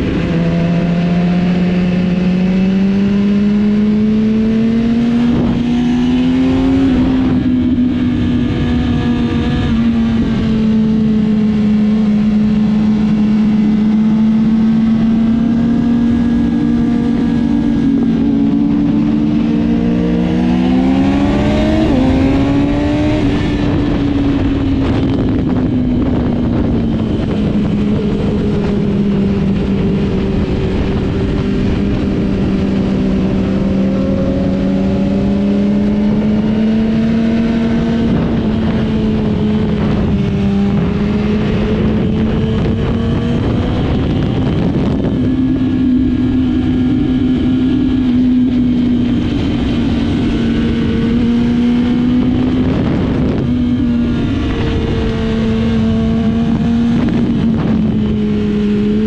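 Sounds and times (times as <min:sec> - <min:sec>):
motorcycle engine running: 0:00.0 - 0:59.0
steady rushing noise: 0:00.0 - 0:59.0.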